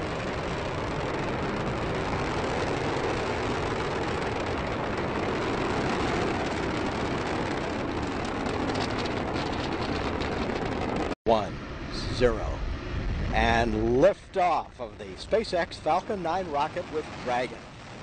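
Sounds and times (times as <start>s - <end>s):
distant rocket engine rumble: 0.0s - 18.0s.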